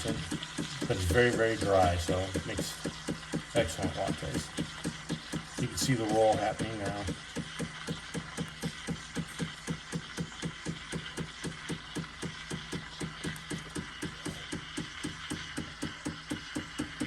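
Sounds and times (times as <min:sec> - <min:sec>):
steam wand hissing into milk: 0:00.0 - 0:17.0.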